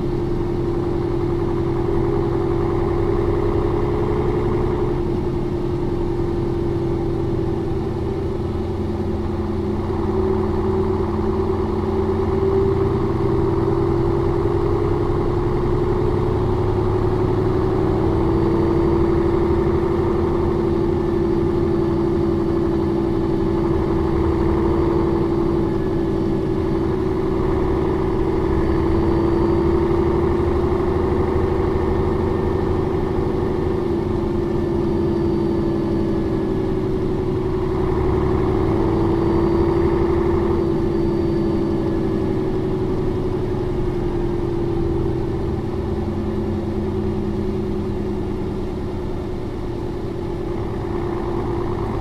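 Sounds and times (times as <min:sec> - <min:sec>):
bus engine running: 0:00.0 - 0:52.0.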